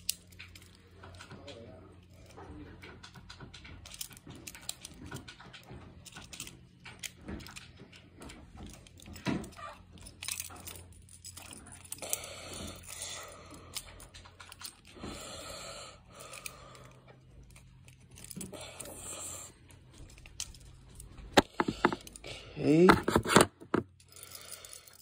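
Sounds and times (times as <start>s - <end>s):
small hard parts clicking: 0.0s - 15.2s, 16.1s - 25.0s.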